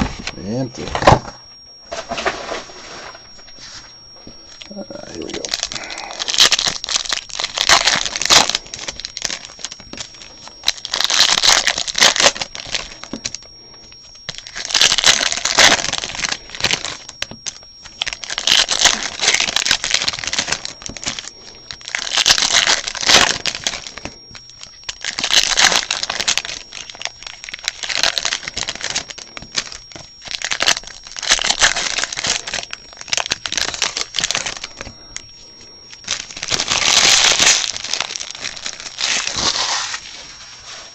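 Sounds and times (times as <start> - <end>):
card pack wrappers crinkling: 4.4 - 40.9.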